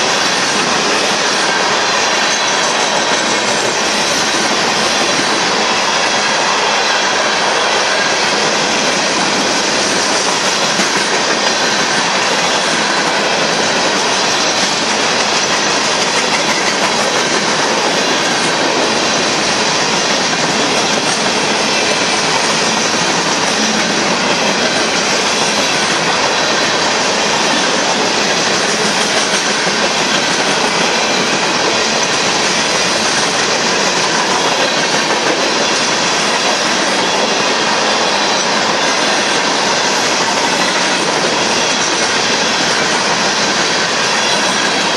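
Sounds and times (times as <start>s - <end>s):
train wheels rolling on rails: 0.0s - 44.9s.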